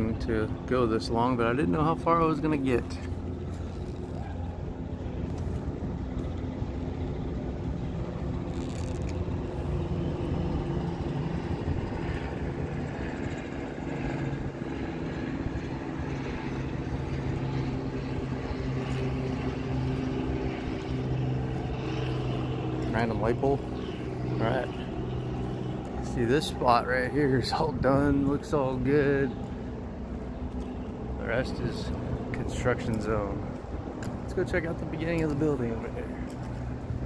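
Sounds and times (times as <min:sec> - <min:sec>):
engine drone: 0:00.0 - 0:37.0.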